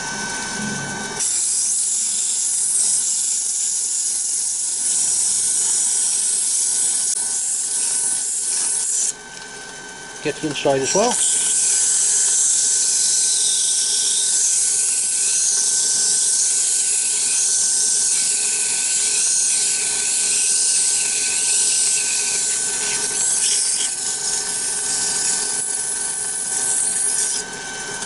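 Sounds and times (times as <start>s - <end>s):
lathe whine: 0.0s - 28.0s.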